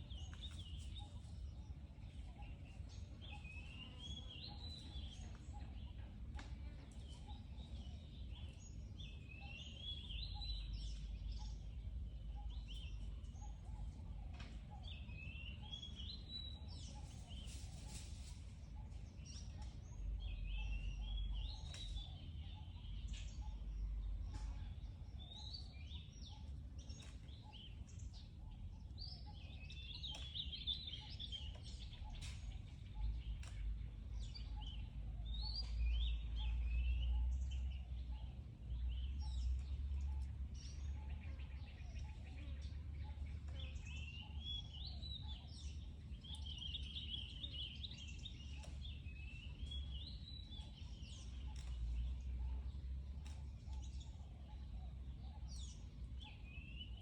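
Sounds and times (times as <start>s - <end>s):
birds chirping and warbling: 0.0s - 57.0s
low outdoor rumble: 0.0s - 57.0s.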